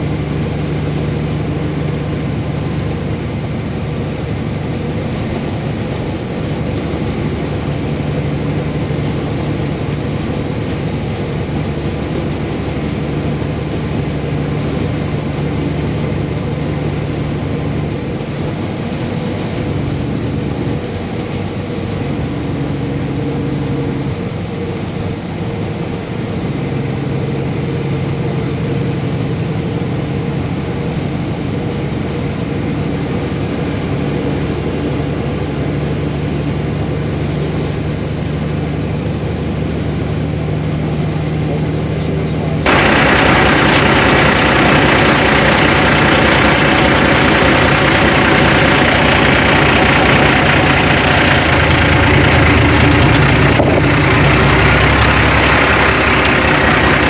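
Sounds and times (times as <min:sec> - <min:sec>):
road and wind noise: 0:00.0 - 0:57.0
truck diesel engine running: 0:00.0 - 0:57.0.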